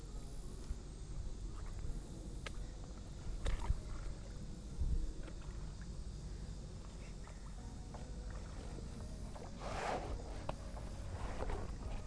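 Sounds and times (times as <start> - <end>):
water sloshing around wading person: 1.4 - 12.0.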